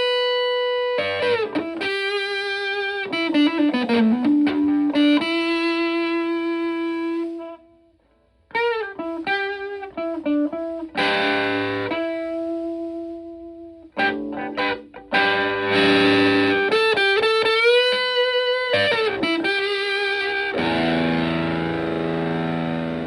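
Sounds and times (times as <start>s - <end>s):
fuzzed electric guitar: 0.0s - 23.0s.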